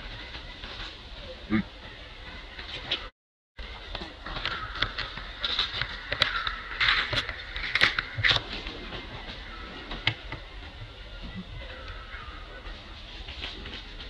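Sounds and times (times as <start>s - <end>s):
leaves and twigs rustling: 0.0s - 14.0s.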